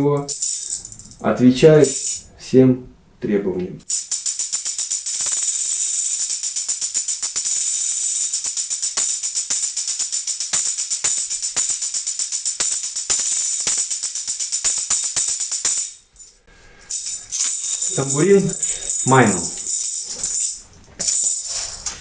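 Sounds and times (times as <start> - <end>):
tambourine jingles in fast rhythm: 0.3 - 1.2, 1.8 - 2.2, 3.9 - 21.8.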